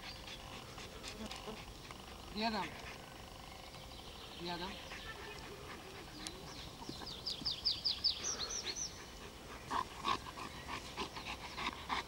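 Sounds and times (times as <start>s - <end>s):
dog panting: 0.0s - 3.2s, 4.6s - 12.0s.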